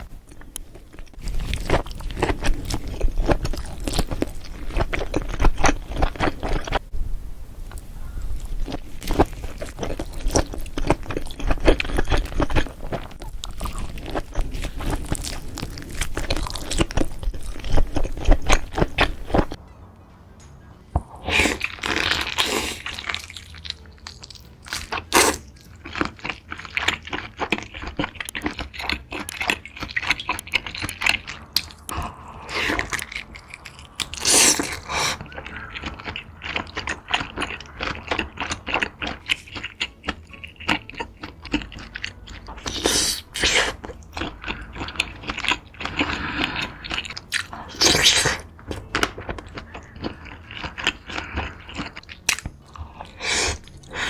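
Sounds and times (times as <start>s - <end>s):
wet chewing and crunching: 0.0s - 6.9s, 8.3s - 19.6s, 21.5s - 54.0s.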